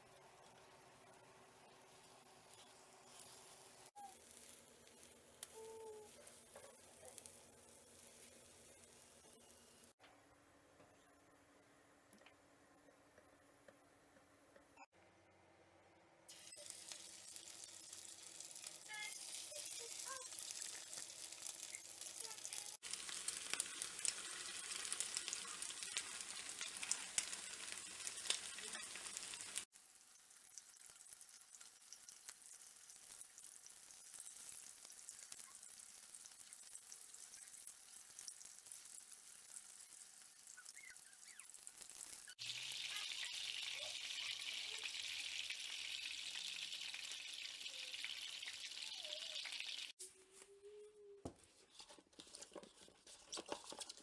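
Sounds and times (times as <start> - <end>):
food sizzling in frying pan: 0.1 - 10.0, 16.3 - 50.0.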